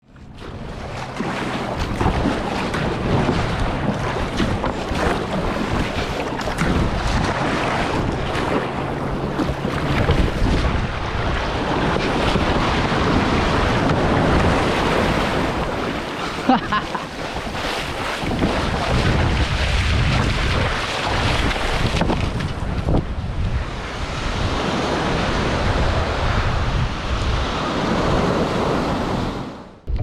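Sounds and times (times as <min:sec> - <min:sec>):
water splashing around kayak: 0:00.0 - 0:30.0
wind buffeting microphone: 0:00.1 - 0:30.0.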